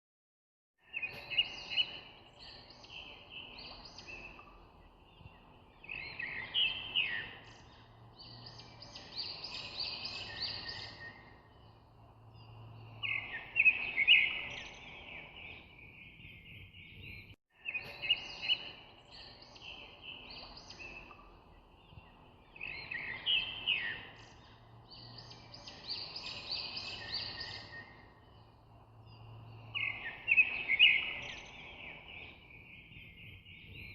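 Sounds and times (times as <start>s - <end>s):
birds chirping and singing: 0.8s - 33.9s.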